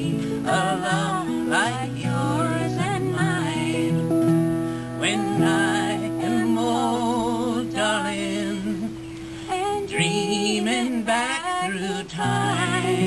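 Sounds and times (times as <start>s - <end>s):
strummed acoustic guitar: 0.0s - 13.0s
woman singing with vibrato: 0.0s - 13.0s.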